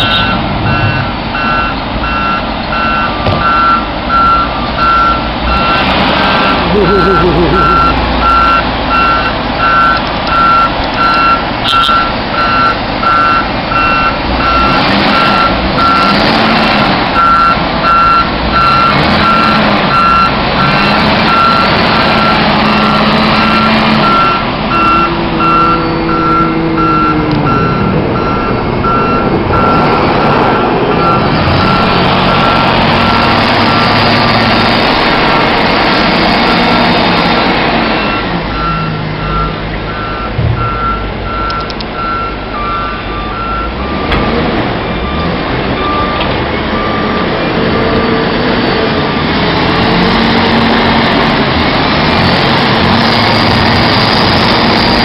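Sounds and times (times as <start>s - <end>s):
vehicle reversing alarm beeping: 0.0s - 34.6s, 38.0s - 48.1s
truck engine running: 0.0s - 55.0s.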